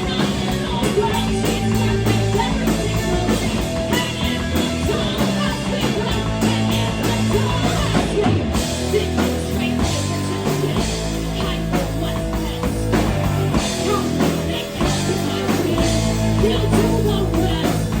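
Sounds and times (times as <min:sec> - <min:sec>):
bass notes: 0:00.0 - 0:18.0
rock band playing: 0:00.0 - 0:18.0.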